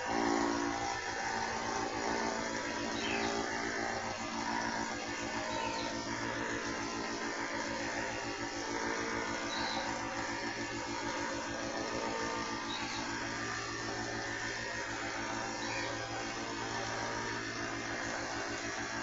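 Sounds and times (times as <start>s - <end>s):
air compressor pulsing hum: 0.0s - 19.0s.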